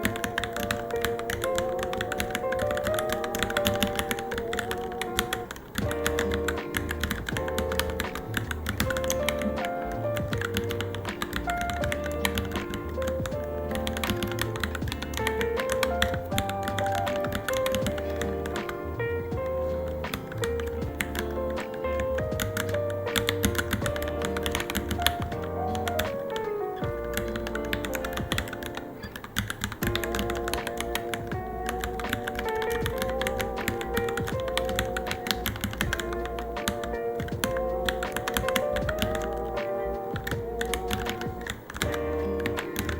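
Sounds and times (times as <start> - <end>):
mechanical keyboard typing: 0.0 - 19.1, 19.8 - 42.9
background music with bass: 0.0 - 28.9, 29.8 - 42.9.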